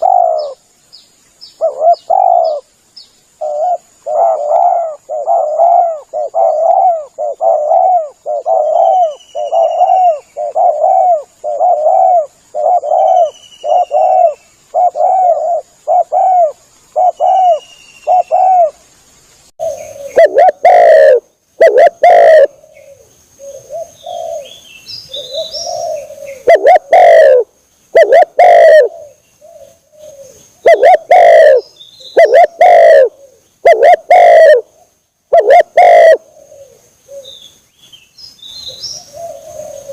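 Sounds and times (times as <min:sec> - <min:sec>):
dove cooing: 0:00.0 - 0:00.6, 0:01.6 - 0:02.7, 0:03.4 - 0:18.8, 0:19.6 - 0:37.4, 0:38.7 - 0:39.9
faint high bird chirping: 0:00.0 - 0:18.9, 0:19.6 - 0:39.9.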